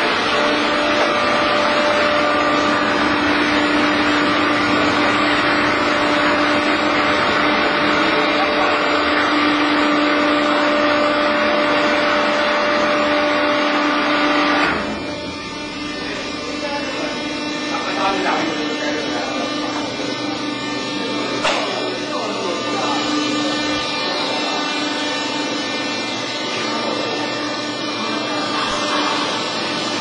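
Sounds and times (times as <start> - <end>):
baler motor whine: 0.0 - 30.0.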